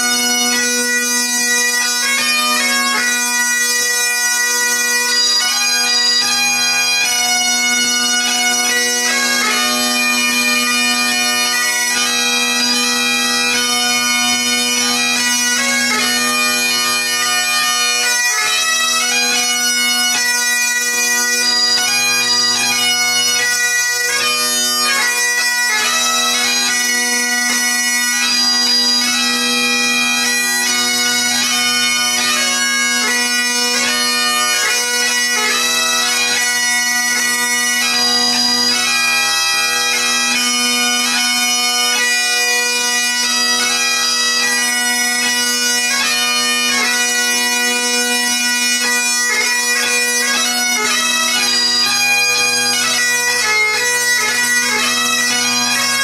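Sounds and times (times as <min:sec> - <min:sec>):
bagpipes playing: 0:00.0 - 0:56.0.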